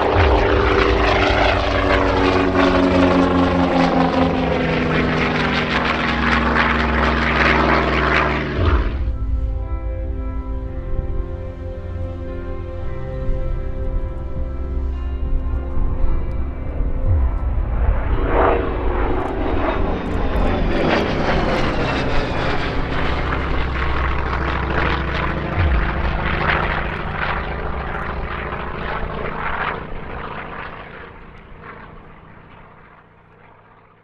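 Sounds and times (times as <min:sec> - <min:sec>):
propeller aircraft flying past: 0:00.0 - 0:34.0.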